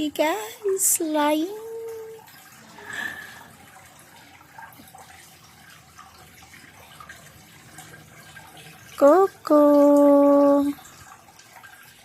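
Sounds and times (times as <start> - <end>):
faint running water: 0.0 - 12.0.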